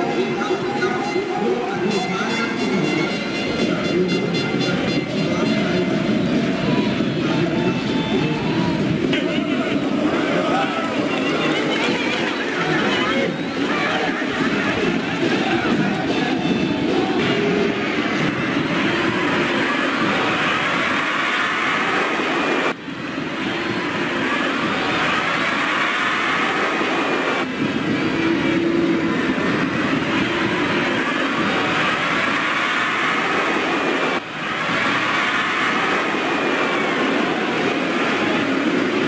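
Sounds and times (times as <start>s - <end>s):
stadium crowd roar: 0.0s - 39.0s.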